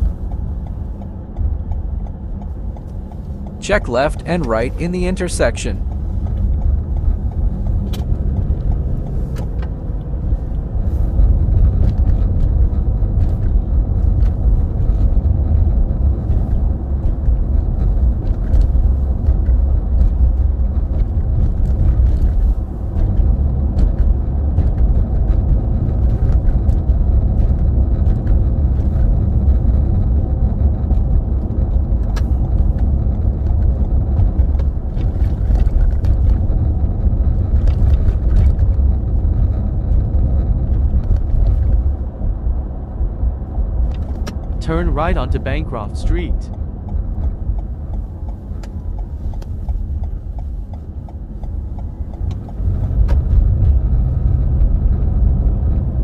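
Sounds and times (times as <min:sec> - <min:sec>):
car driving on a road: 0:00.0 - 0:56.0.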